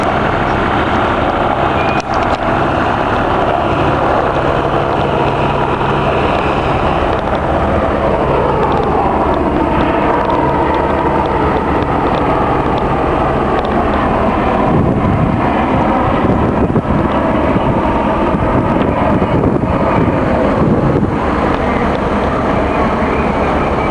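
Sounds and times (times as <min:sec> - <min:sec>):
helicopter engine and rotor drone: 0:00.0 - 0:23.9.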